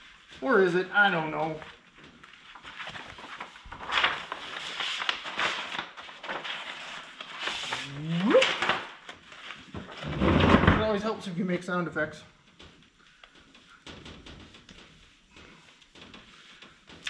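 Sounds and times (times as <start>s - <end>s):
vinyl sheet rustling and crinkling: 0.0s - 11.2s, 12.4s - 17.0s.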